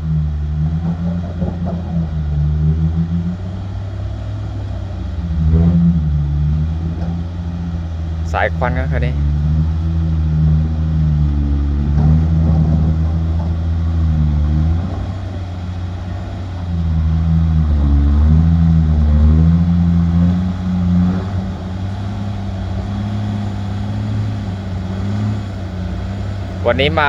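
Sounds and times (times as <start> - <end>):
truck diesel engine revving: 0.0 - 27.0.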